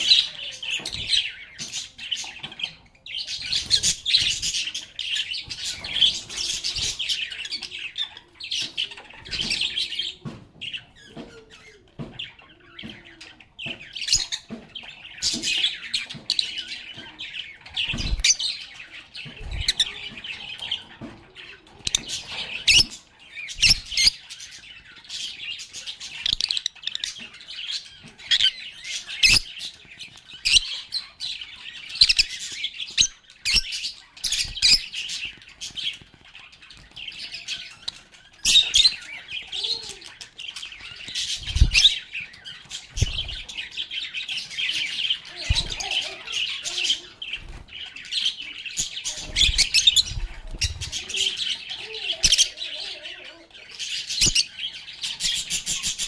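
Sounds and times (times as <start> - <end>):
lovebirds chirping and chattering: 0.0 - 56.0.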